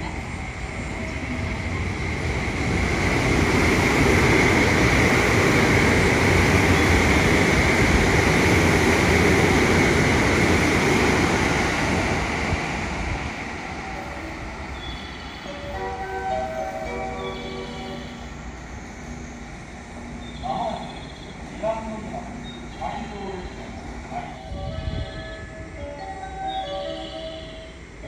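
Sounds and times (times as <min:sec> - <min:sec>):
train wheels rushing on rail: 0:00.0 - 0:28.0.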